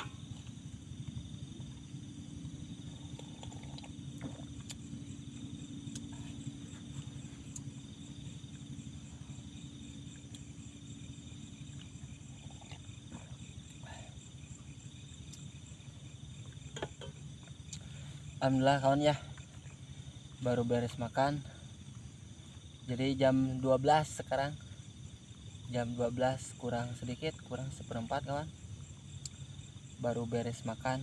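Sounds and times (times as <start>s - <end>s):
crickets trilling: 0.0s - 31.0s
low steady rumble: 0.0s - 31.0s.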